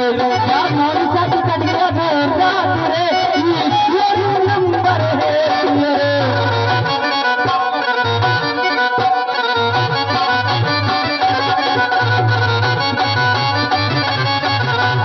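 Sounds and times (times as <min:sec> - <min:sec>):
reed instrument melody: 0:00.0 - 0:15.0.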